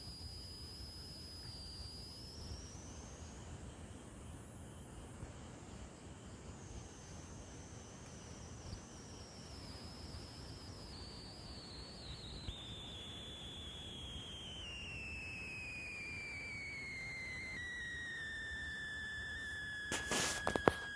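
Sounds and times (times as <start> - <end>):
high whistling tone sliding down: 0.0 - 3.9, 5.3 - 20.9
faint background hiss: 0.0 - 20.9.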